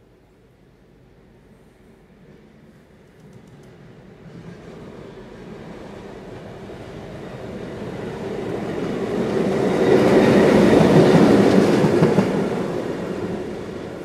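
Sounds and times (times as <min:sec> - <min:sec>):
train wheels on rails: 0:01.2 - 0:14.0.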